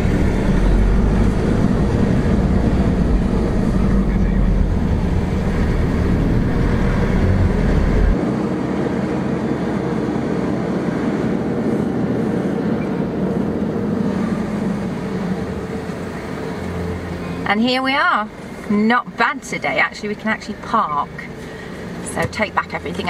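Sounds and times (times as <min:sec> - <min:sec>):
car engine running: 0:00.0 - 0:23.0
road noise: 0:00.0 - 0:23.0.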